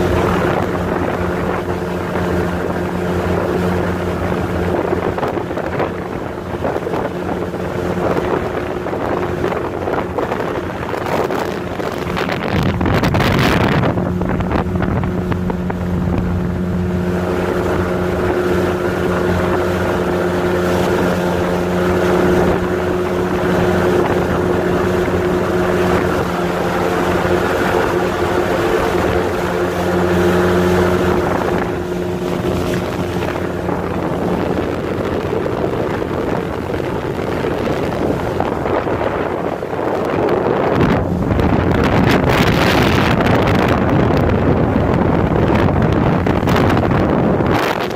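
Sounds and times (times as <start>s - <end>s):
motorboat engine running: 0.0s - 47.9s
rush of water: 0.0s - 47.9s
wind buffeting microphone: 0.0s - 47.9s.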